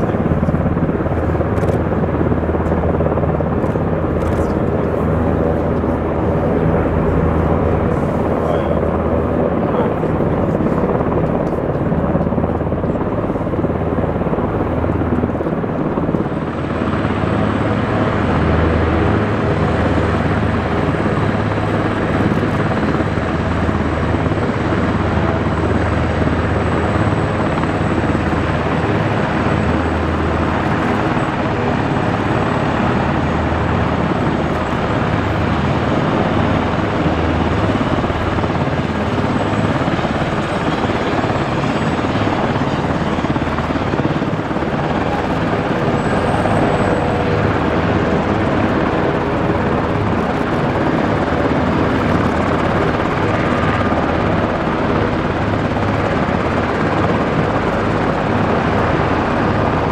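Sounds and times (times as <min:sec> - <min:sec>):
aircraft rumble: 0:00.0 - 0:59.9.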